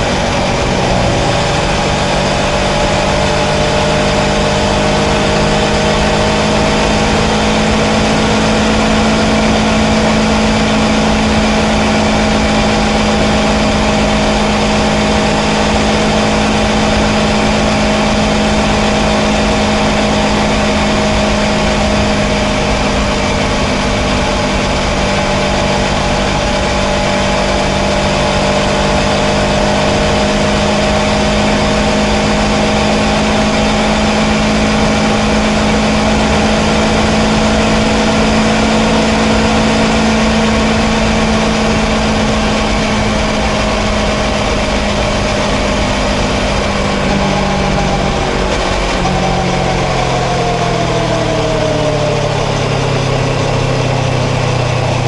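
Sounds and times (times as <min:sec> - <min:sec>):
motorcycle engine cruising: 0:00.0 - 0:55.0
wind and road rush: 0:00.0 - 0:55.0.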